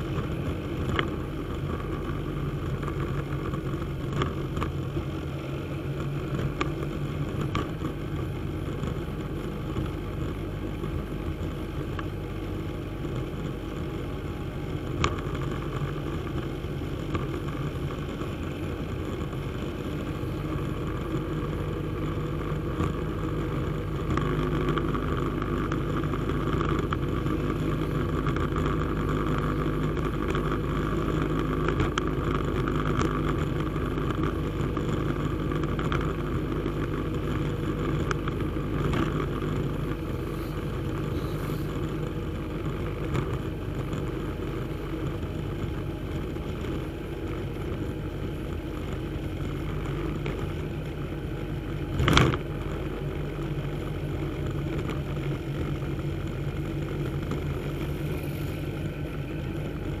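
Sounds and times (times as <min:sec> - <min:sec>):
road and wind noise: 0:00.0 - 1:00.0
vehicle engine driving: 0:00.0 - 1:00.0.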